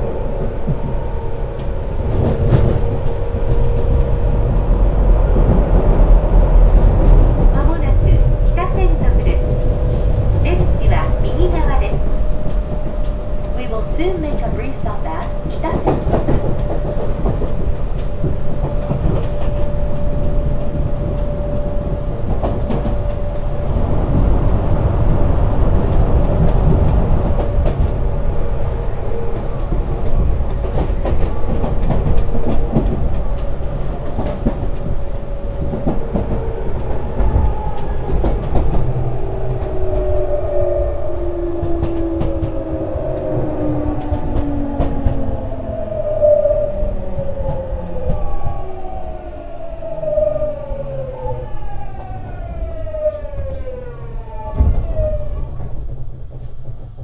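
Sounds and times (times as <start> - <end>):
wheels clicking over rail joints: 0.0 - 49.0
train cabin running noise: 0.0 - 57.0.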